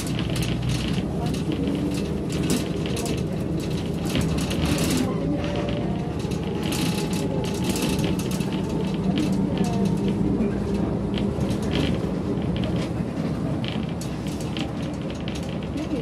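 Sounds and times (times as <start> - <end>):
bus body rattles and clicks: 0.0 - 16.0
bus engine and road drone: 0.0 - 16.0.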